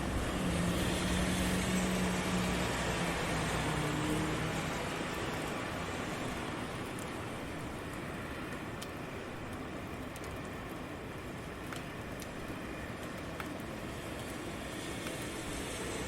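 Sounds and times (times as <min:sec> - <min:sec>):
steady rain: 0:00.0 - 0:16.0
traffic rumble: 0:00.0 - 0:16.0.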